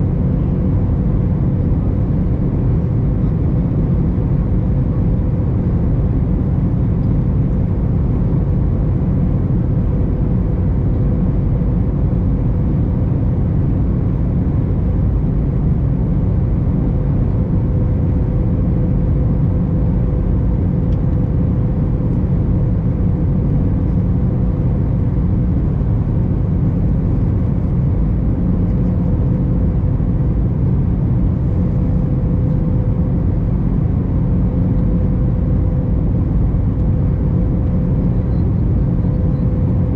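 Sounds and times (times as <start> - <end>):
airliner cabin rumble: 0.0 - 39.9
faint steady hum: 0.0 - 39.9.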